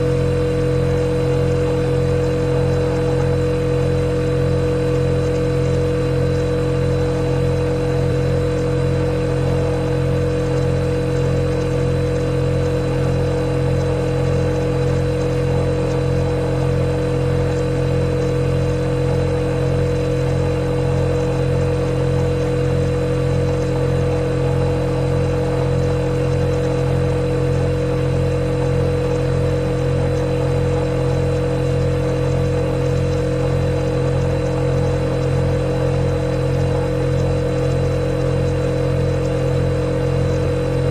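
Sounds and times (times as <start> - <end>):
refrigerator humming: 0.0 - 40.9.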